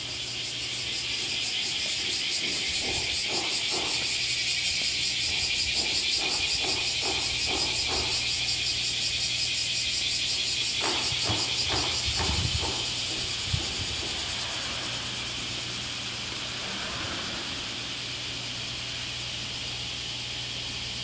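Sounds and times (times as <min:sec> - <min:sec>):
pulsing insect-like buzz: 0:00.0 - 0:21.0.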